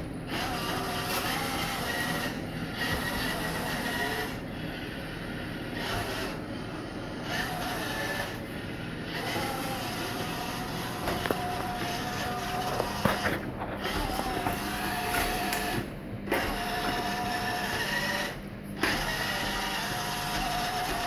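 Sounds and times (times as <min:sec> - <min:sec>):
robot vacuum motors whirring: 0:00.3 - 0:21.0.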